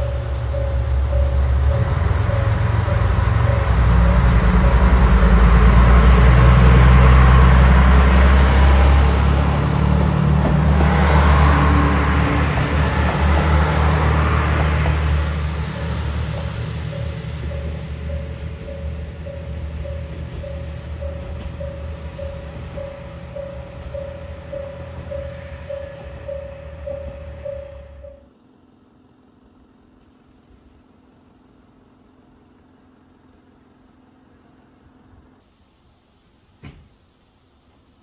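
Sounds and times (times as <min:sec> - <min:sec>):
vehicle engine rumble: 0:00.0 - 0:38.0.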